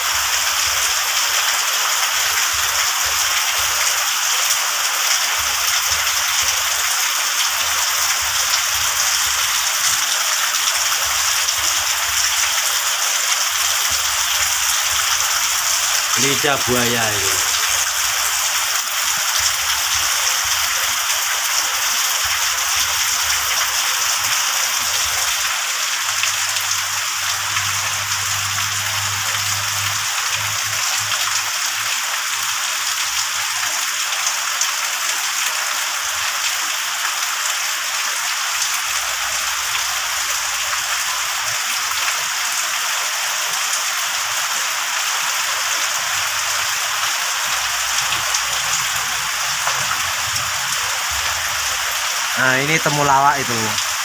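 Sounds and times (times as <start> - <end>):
heavy rain splashing: 0.0 - 54.0
water pouring off roof: 0.0 - 54.0.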